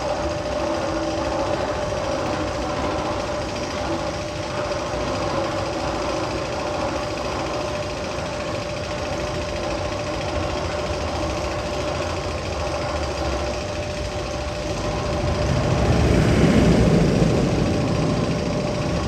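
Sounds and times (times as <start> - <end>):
constant hum: 0.0 - 19.0
machine rumble with rattle: 0.0 - 19.0.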